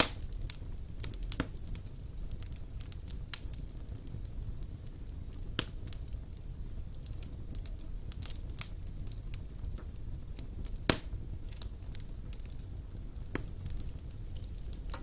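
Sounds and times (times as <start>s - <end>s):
fire crackling and rumbling: 0.0s - 15.0s
fire popping: 0.0s - 15.0s.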